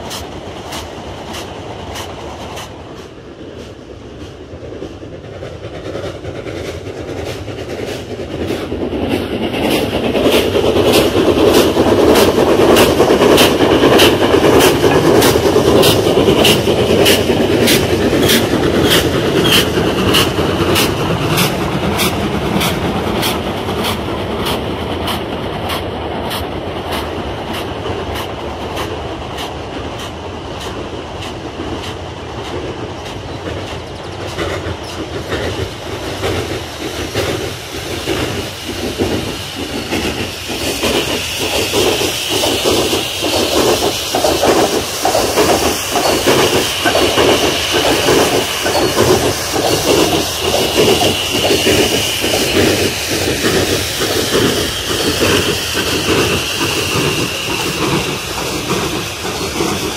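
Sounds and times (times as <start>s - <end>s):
steam hissing: 0.0s - 59.9s
wheels clicking over rail joints: 4.8s - 59.9s
locomotive exhaust beat: 5.2s - 59.9s.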